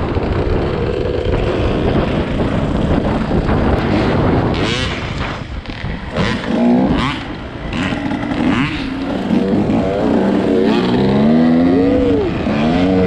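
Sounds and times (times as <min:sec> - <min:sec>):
dirt bike engine revving: 0:00.0 - 0:13.0
wind buffeting microphone: 0:00.0 - 0:13.0.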